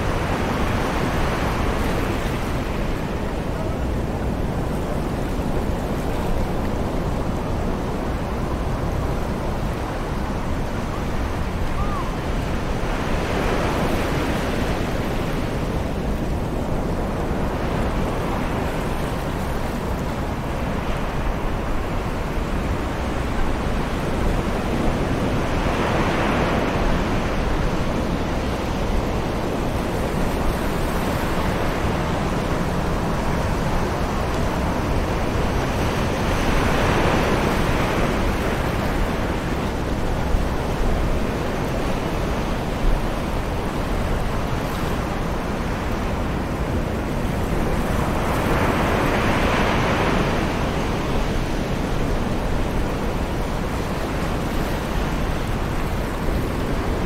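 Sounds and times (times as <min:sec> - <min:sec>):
distant ocean surf: 0:00.0 - 0:57.0.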